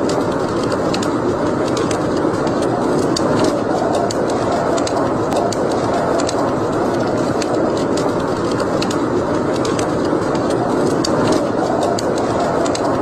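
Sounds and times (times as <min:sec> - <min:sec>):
wood fire burning: 0:00.0 - 0:13.0.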